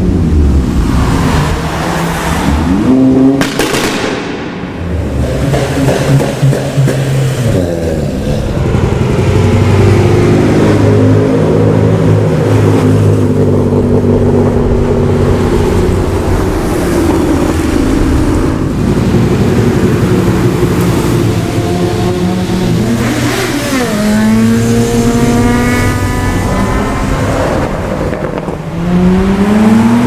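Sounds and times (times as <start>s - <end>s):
car engine under load: 0.0s - 30.0s.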